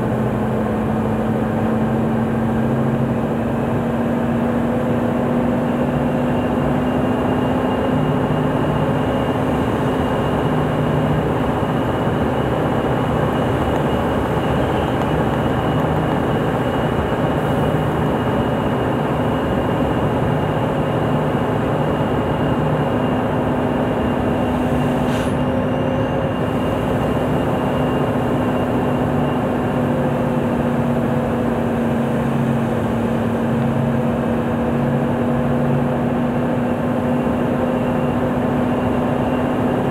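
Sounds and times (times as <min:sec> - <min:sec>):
diesel engine drone: 0:00.0 - 0:39.9
steady whine: 0:00.0 - 0:39.9.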